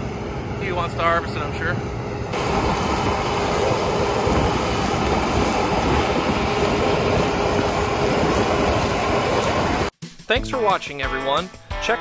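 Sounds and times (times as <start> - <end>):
combine harvester drone: 0.0 - 9.9.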